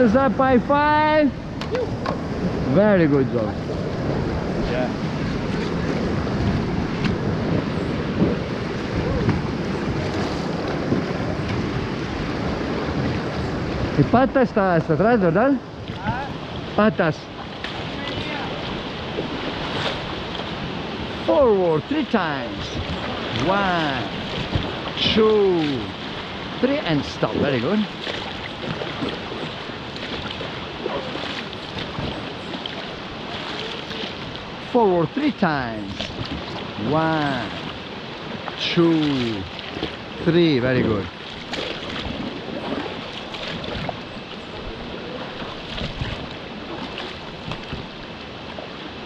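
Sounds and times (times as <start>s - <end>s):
whitewater river rushing: 0.0s - 49.0s
wind on microphone: 1.0s - 14.4s, 15.6s - 21.6s, 22.4s - 26.6s, 27.2s - 34.6s, 35.8s - 48.2s.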